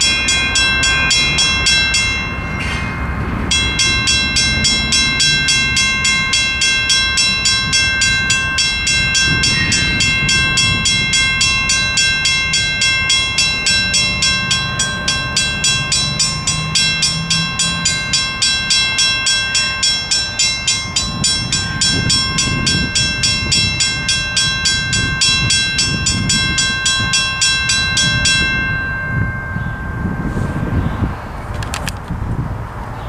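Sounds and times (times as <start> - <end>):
crossing bell ringing: 0.0 - 31.8
freight train rumble: 0.0 - 33.0.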